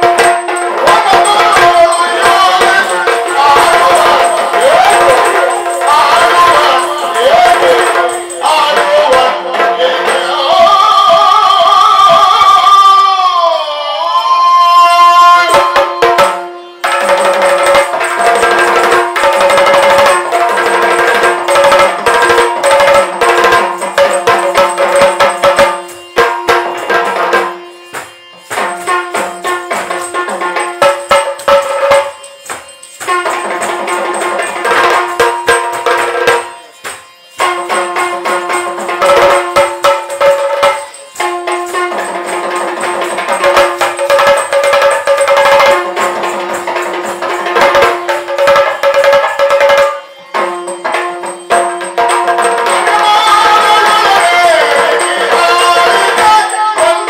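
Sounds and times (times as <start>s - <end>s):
drums beating fast dance rhythm: 0.0s - 10.2s, 15.4s - 57.0s.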